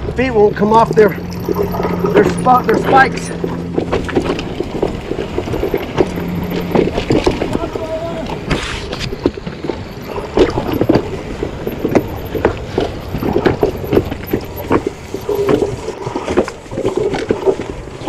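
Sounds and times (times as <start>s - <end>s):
steady low rush: 0.0s - 17.1s
bike wheels clattering on rocks: 0.3s - 18.0s.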